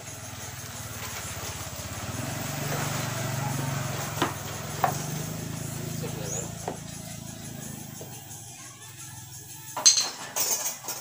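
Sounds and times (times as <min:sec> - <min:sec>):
small engine running: 0:00.0 - 0:09.8.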